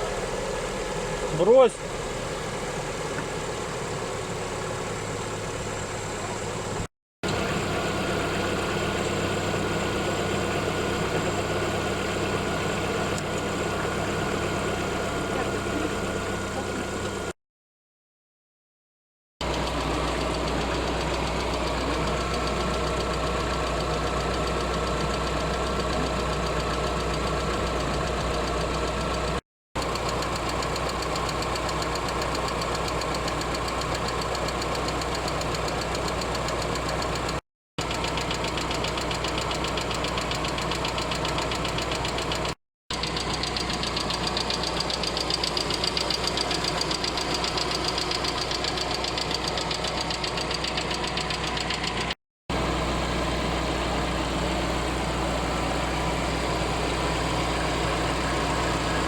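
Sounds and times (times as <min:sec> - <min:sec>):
engine running with ticking knock: 0:00.0 - 0:17.4, 0:19.4 - 0:59.0.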